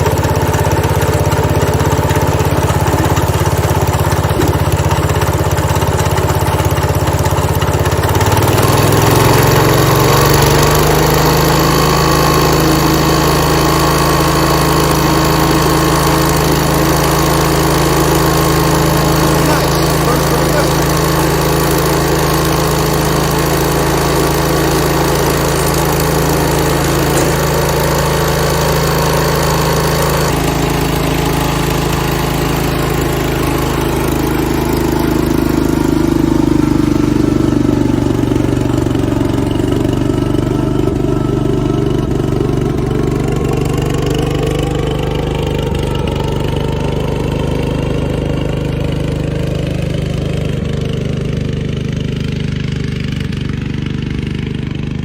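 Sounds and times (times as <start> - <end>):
single-cylinder engine running: 0.0 - 55.0.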